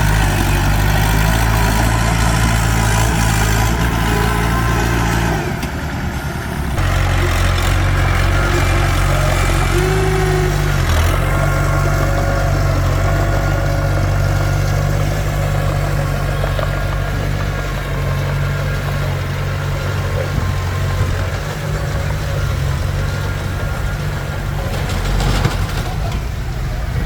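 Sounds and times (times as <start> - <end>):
bulldozer diesel engine droning: 0.0 - 27.0.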